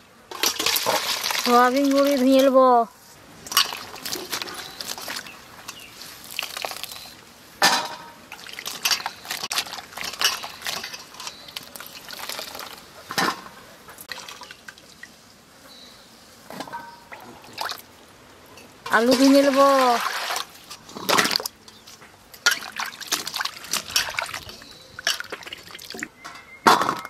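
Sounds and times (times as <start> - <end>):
water sloshing and dripping: 0.3 - 2.6, 3.4 - 15.2, 16.8 - 18.0, 18.8 - 26.1.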